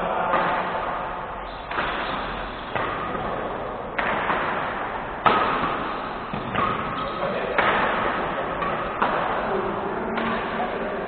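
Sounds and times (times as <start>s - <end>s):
racket hitting shuttlecock: 0.2s - 10.8s.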